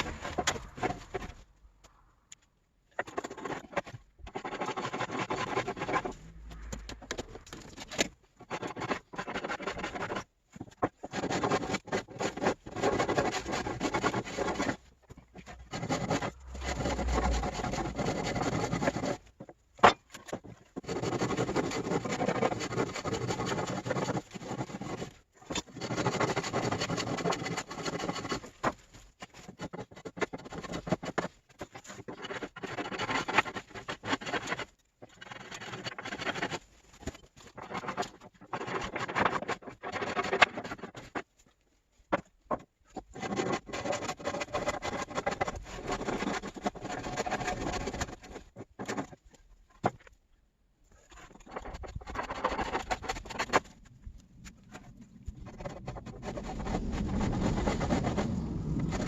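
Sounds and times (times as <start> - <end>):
hand tool scraping and rubbing: 0.0 - 2.0, 2.9 - 50.2, 50.9 - 59.0.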